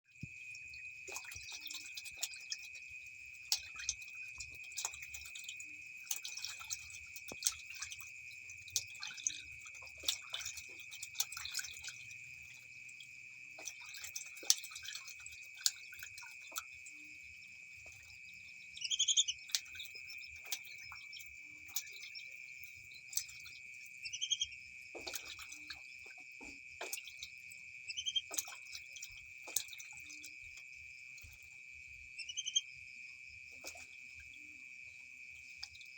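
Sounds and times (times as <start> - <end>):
water splashing and dripping: 0.1 - 35.9.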